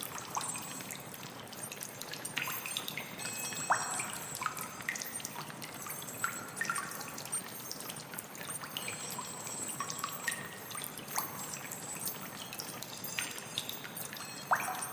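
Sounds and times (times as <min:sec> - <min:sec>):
water drops plinking: 0:00.0 - 0:14.9
water trickling: 0:00.0 - 0:14.9.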